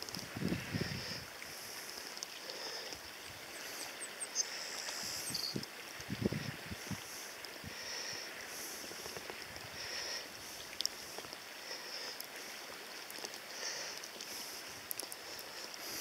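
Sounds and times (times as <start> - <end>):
shallow river water lapping: 0.0 - 16.0.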